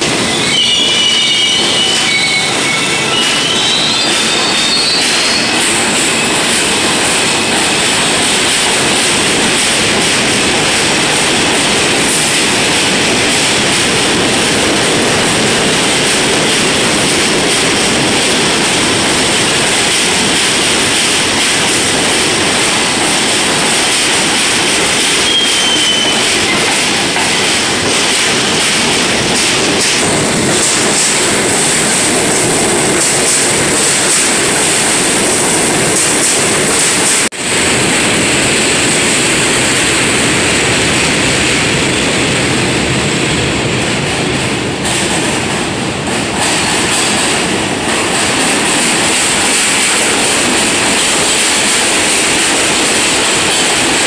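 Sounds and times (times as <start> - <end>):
subway train wheels rumbling on rails: 0.0 - 54.0.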